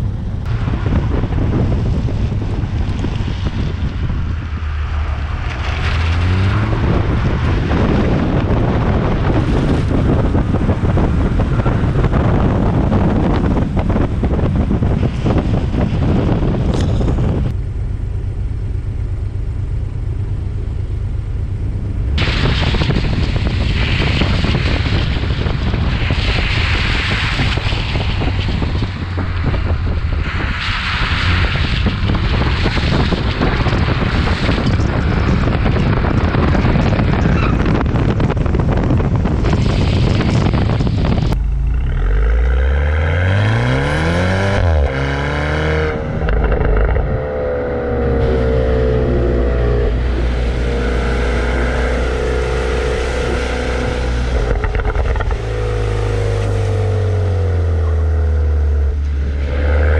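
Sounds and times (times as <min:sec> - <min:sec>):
wind and road spray rushing: 0:00.0 - 0:17.6, 0:22.0 - 0:59.9
car engine revving: 0:00.0 - 0:17.8, 0:20.2 - 0:59.9.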